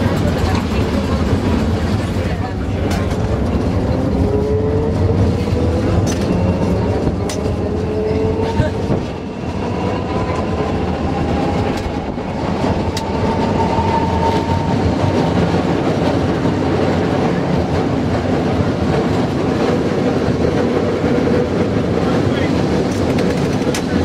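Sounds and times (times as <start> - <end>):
streetcar rumbling on rails: 0.0 - 24.0.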